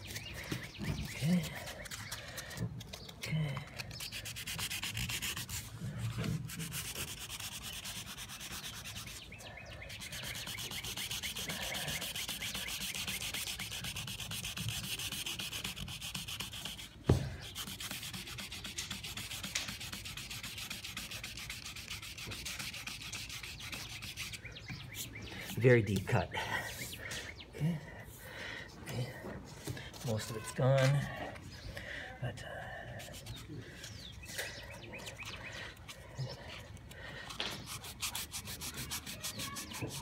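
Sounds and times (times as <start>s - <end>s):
sanding disc scratching plastic: 0.0s - 27.0s, 33.0s - 40.0s.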